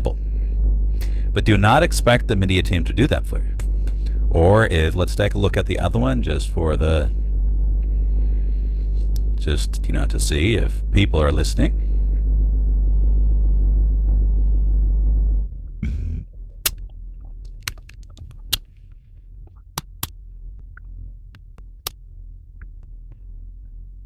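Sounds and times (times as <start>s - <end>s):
faint low hum: 0.0s - 24.0s
loud low rumble: 0.0s - 24.0s.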